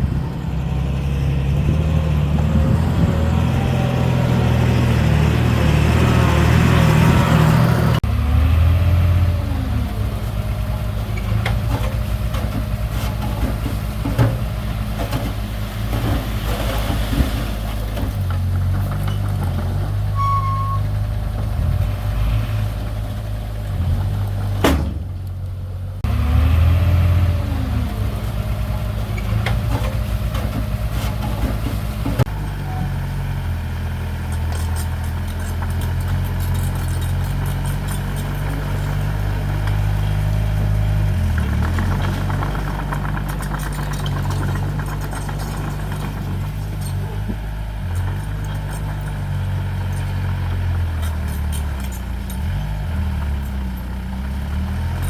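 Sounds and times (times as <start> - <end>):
heavy machinery engine drone: 0.0 - 55.0.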